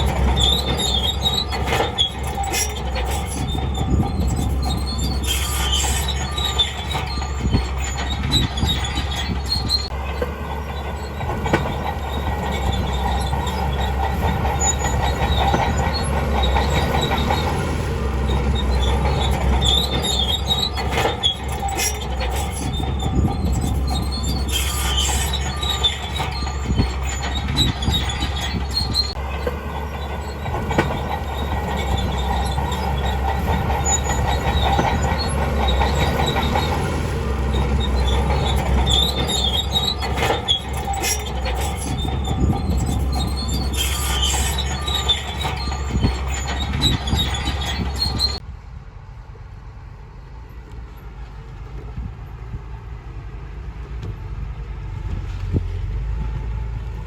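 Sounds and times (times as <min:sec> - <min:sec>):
steel tracks squealing and clattering: 0:00.0 - 0:48.5
bulldozer diesel engine rumbling: 0:00.0 - 0:57.0.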